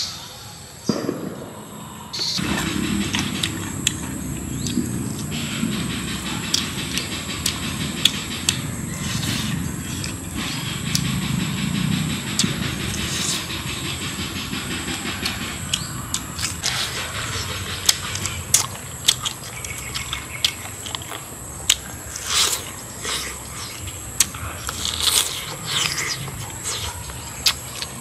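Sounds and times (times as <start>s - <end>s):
steady high hiss: 0.0s - 28.0s
chewing with mouth clicks: 2.4s - 28.0s.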